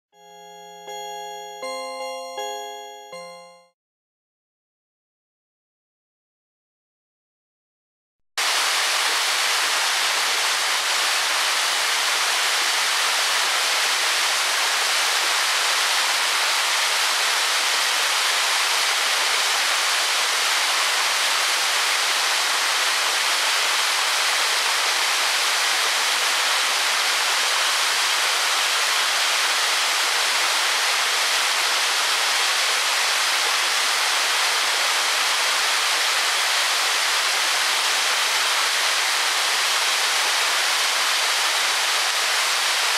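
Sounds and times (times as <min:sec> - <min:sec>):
waterfall splashing: 0:08.4 - 0:42.9.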